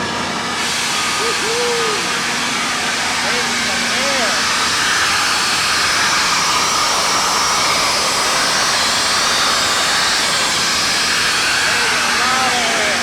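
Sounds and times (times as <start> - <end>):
air compressor rushing: 0.0 - 13.0.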